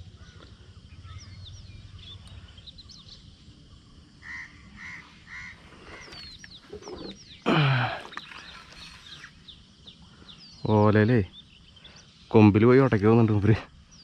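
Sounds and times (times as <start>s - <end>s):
birds chirping: 0.0s - 14.0s
lower bird calls: 0.0s - 14.0s.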